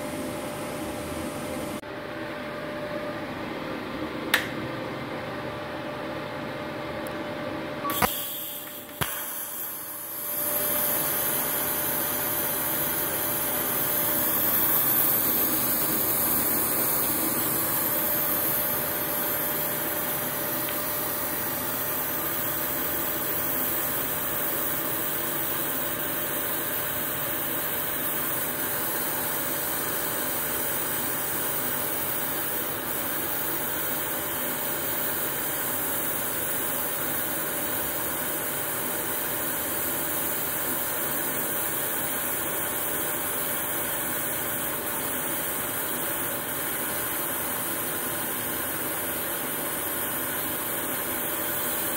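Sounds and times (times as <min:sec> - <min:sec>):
welding arc hissing: 0:07.9 - 0:51.9.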